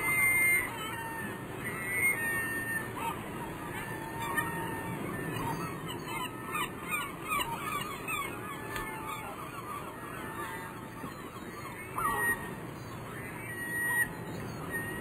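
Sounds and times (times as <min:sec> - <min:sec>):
birds chirping: 0:00.0 - 0:15.0
steady outdoor hiss: 0:00.0 - 0:15.0.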